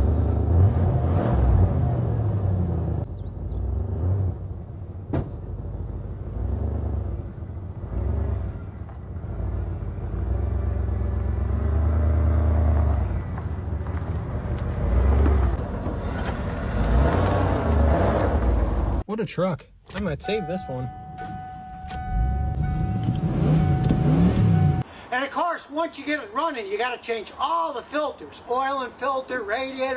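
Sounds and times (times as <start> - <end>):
truck engine droning: 0.0 - 19.0, 19.9 - 25.1.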